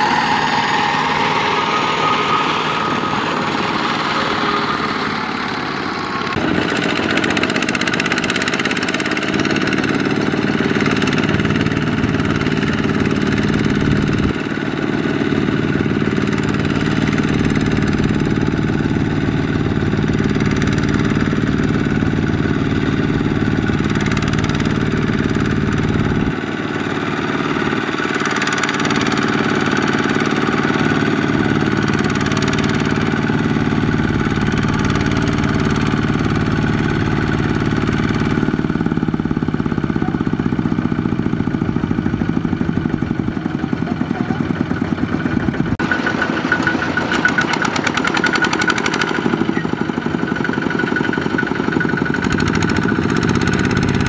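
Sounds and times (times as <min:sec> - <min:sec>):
diesel engine straining under load: 0:00.0 - 0:54.0.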